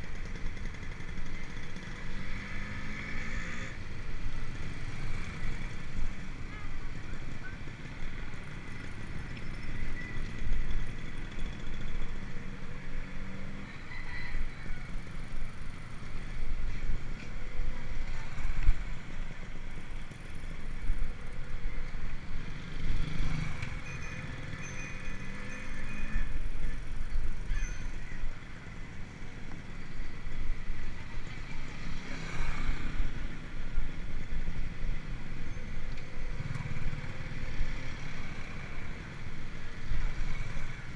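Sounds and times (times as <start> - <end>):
wind and road rumble: 0.0 - 40.9.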